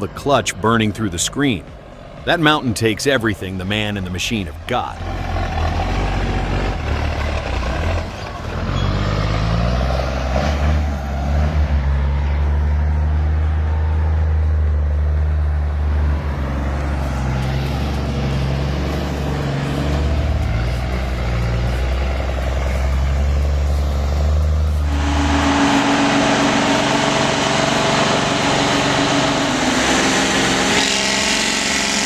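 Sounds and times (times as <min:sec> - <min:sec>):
truck diesel engine labouring: 0:00.0 - 0:32.0.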